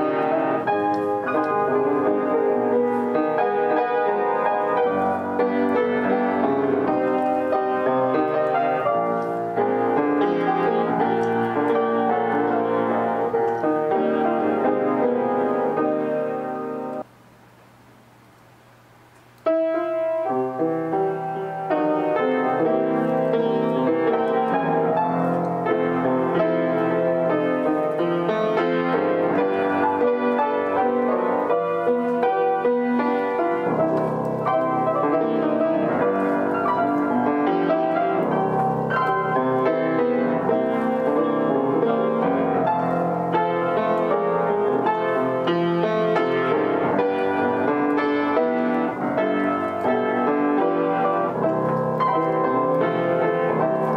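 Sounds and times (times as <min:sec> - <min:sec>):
upright piano playing: 0:00.0 - 0:17.1, 0:19.4 - 0:53.9.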